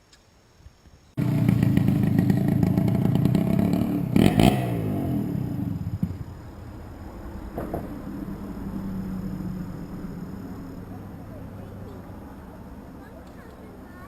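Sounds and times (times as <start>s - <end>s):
engine passing by: 1.2s - 13.9s.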